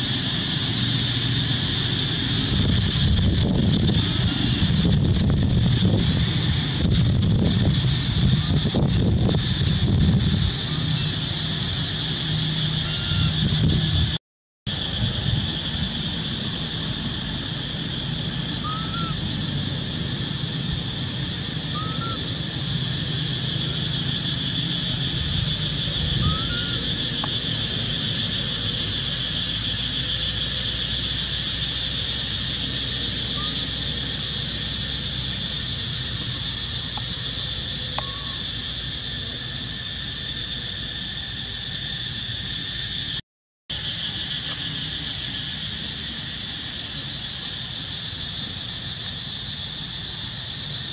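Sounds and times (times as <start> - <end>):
high-pitched insect drone: 0.0 - 50.9.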